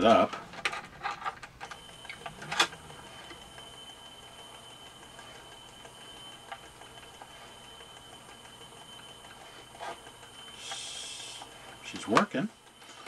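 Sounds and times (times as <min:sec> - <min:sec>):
small motor whining: 0:01.7 - 0:13.0.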